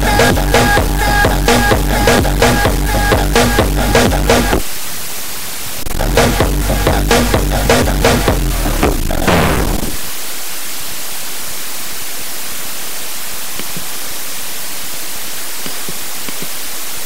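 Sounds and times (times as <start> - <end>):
white-noise hiss: 0.0 - 17.0.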